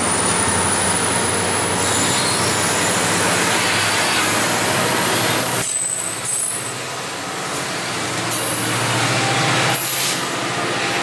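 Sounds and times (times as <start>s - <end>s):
train running hum: 0.0s - 11.0s.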